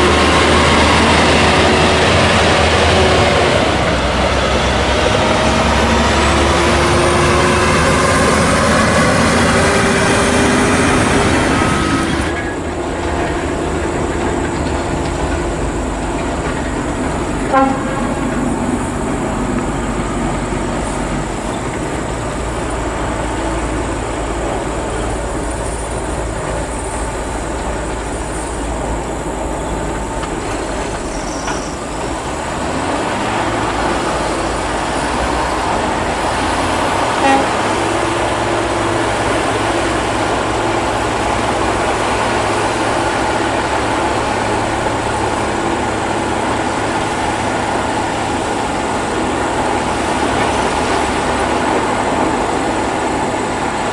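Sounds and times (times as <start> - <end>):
heavy trucks driving on gravel: 0.0 - 53.9.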